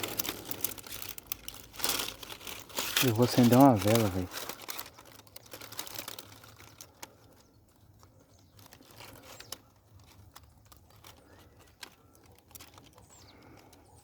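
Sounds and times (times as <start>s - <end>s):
dry brush rustling and crackling: 0.0s - 14.0s.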